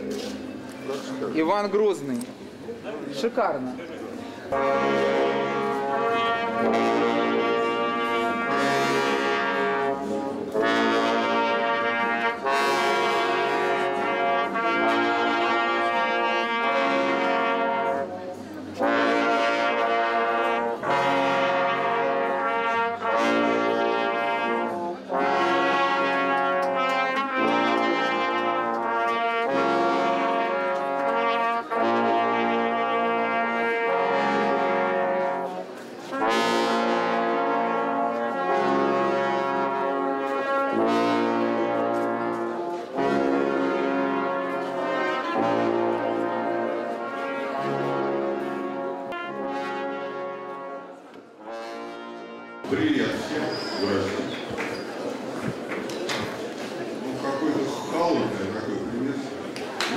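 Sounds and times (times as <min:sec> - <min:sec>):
trumpets playing held chords: 0:04.4 - 0:53.4.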